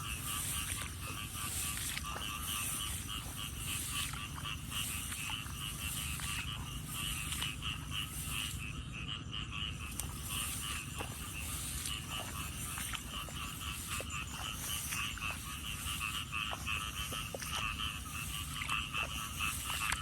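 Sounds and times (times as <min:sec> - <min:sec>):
frogs calling: 0:00.0 - 0:20.0
steady low rumble: 0:00.0 - 0:20.0.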